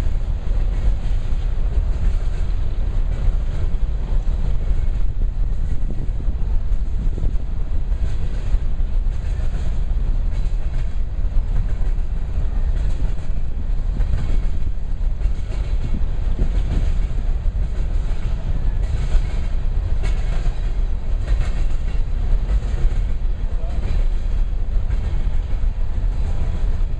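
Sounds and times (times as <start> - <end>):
train wheels rumbling on rail: 0.0 - 26.9.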